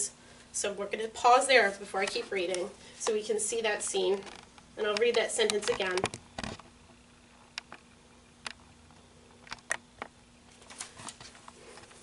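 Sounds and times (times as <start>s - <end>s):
quiet steady hum: 0.0s - 12.0s.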